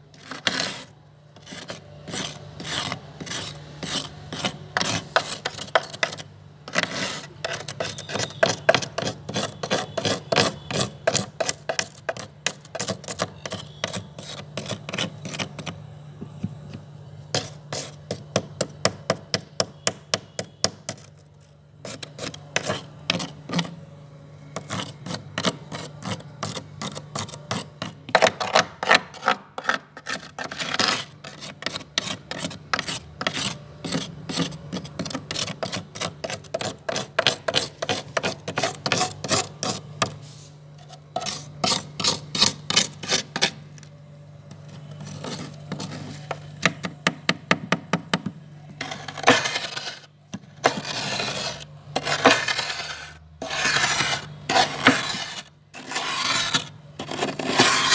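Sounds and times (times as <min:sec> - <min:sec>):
spoon scraping frost: 0:00.0 - 0:15.8, 0:17.3 - 0:18.9, 0:19.9 - 0:23.9, 0:24.5 - 0:43.9, 0:44.5 - 0:46.8, 0:48.8 - 0:57.9.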